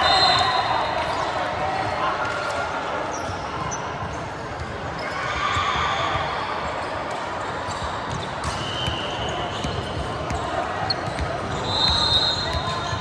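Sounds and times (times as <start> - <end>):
voices echoing in a hall: 0.0 - 13.0.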